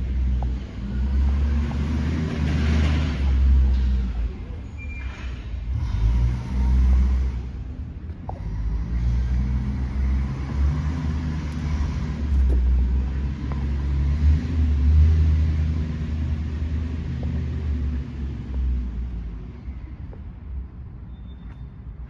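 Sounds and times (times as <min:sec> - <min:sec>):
truck engine rumbling: 0:00.0 - 0:20.7.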